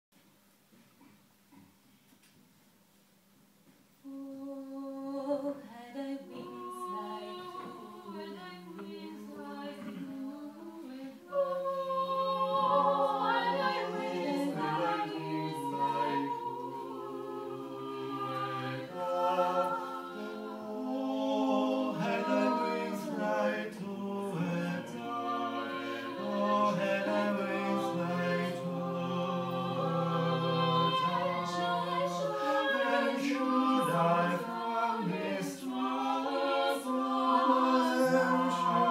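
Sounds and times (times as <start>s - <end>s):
vocal ensemble singing in harmony: 4.0s - 38.9s.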